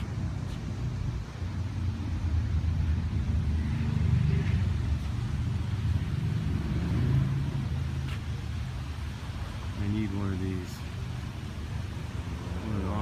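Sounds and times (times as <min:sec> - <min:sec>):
car engine rumbling at low revs: 0:00.0 - 0:13.0.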